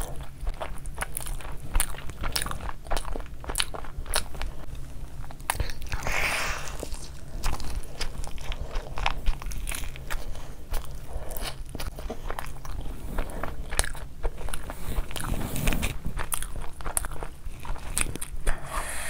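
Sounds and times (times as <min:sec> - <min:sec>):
wet chewing and smacking: 0:00.0 - 0:18.6.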